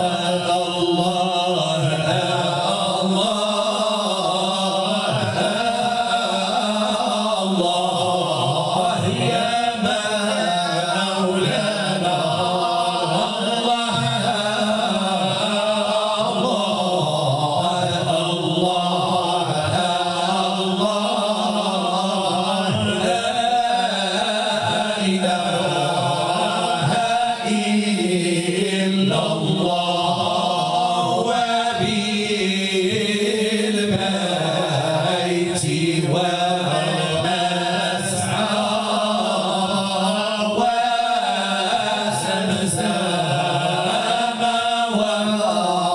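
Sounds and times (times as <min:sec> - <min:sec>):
men chanting in unison: 0:00.0 - 0:45.9.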